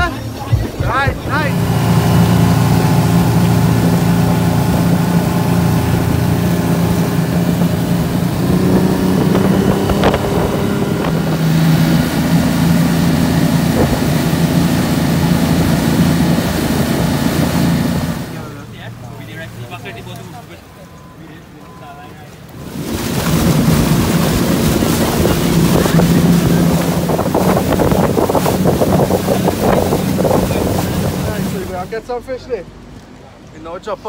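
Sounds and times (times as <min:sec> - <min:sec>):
wind buffeting microphone: 0:00.0 - 0:18.3, 0:22.6 - 0:31.9
outboard motor droning: 0:00.0 - 0:33.2
rushing wake water: 0:00.0 - 0:34.0.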